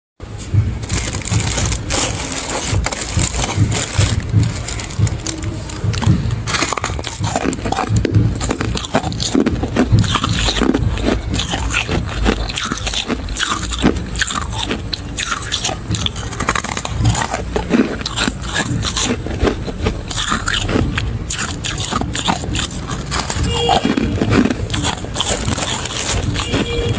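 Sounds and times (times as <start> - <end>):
chewing crunchy frost: 0.9 - 26.9.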